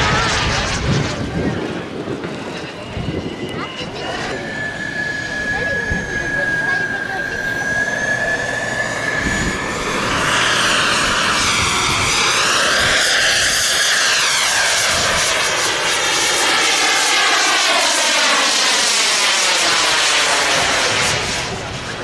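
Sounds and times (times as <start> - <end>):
model airplane engine flying past: 0.0 - 22.0.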